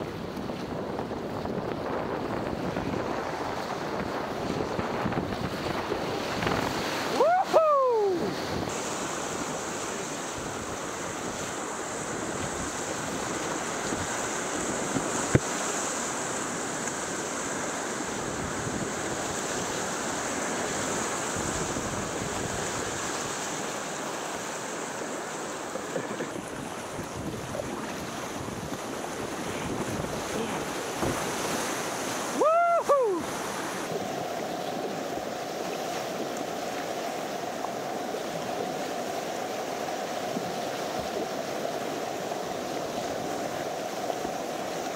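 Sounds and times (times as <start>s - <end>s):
whitewater rapids rushing: 0.0s - 44.9s
wind on microphone: 0.0s - 44.9s.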